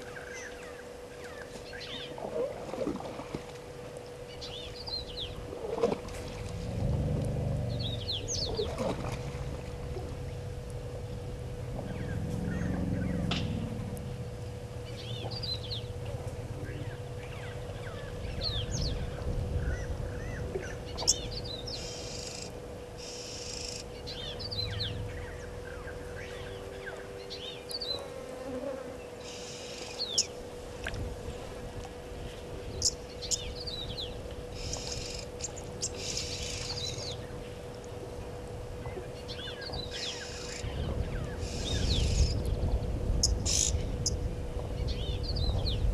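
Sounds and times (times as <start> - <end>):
insects buzzing: 0.0 - 45.2
faint steady hum: 0.0 - 45.9.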